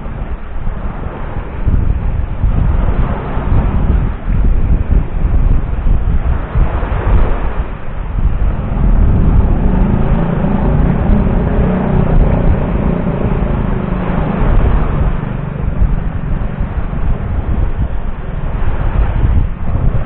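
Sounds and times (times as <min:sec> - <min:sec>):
engine hum: 0:00.0 - 0:20.0
wind rumbling on microphone: 0:00.0 - 0:20.0.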